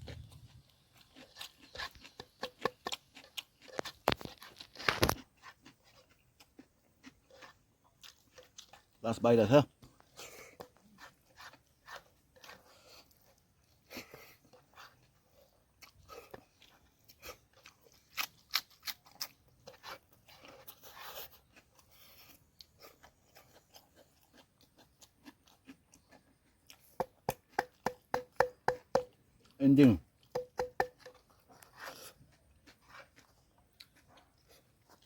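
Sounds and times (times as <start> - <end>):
person chewing food: 0.0 - 9.1, 9.8 - 35.0.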